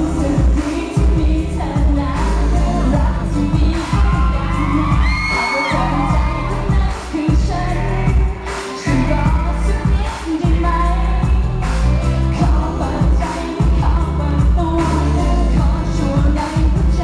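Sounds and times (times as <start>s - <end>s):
backing track with heavy bass: 0.0s - 17.0s
woman singing into microphone: 0.0s - 17.0s.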